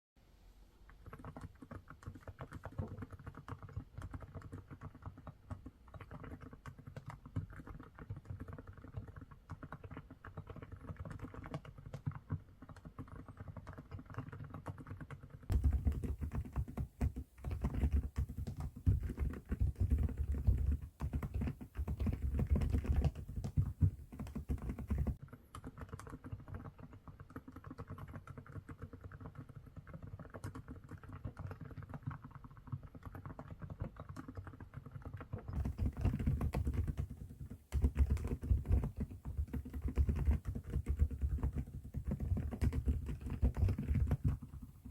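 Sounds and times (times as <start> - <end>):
fast mechanical keyboard typing: 1.0 - 44.9.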